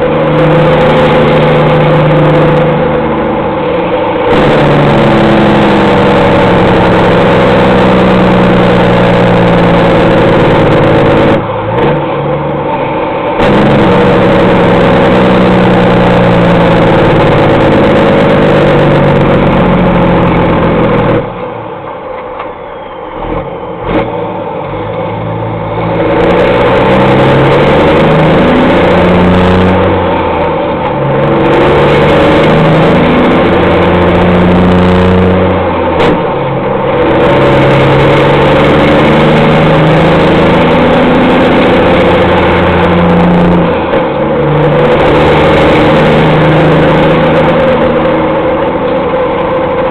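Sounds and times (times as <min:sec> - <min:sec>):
truck diesel engine under load: 0:00.0 - 0:49.9.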